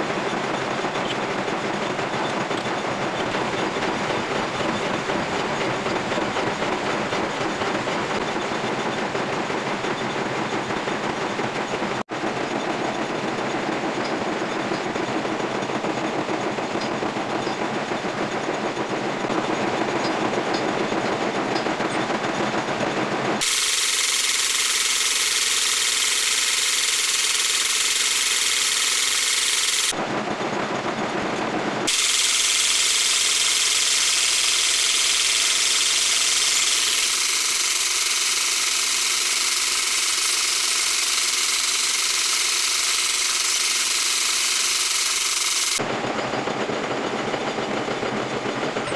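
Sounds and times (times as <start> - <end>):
metal lathe machining steel: 0.0 - 11.8, 12.4 - 30.2, 31.8 - 48.9.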